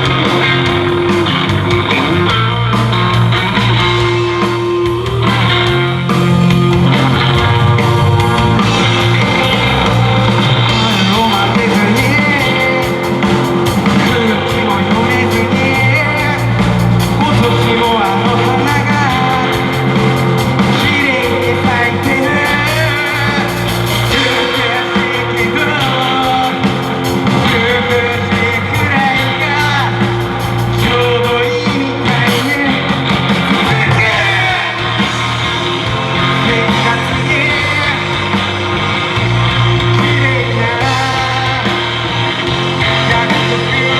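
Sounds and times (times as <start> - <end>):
person singing: 0.0 - 38.6, 39.3 - 43.9
live rock band playing: 0.0 - 43.9.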